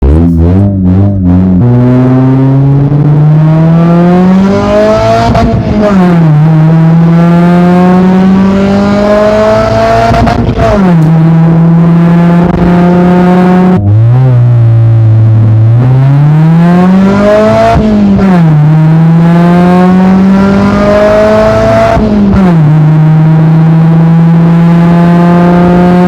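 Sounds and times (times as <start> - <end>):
car engine accelerating through gears: 0.0 - 26.0.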